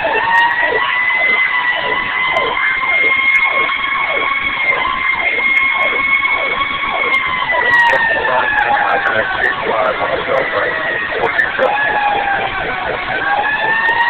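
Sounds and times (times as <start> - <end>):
fast falling electronic siren tone: 0.0 - 14.0
siren steady wail: 0.0 - 14.0.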